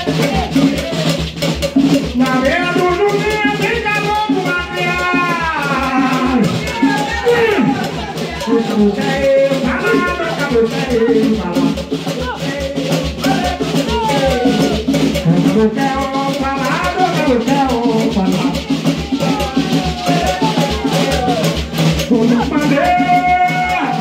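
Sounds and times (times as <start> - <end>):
hand drums beating: 0.0 - 24.0
rattles shaking: 0.0 - 24.0
voices singing a chant: 0.0 - 24.0.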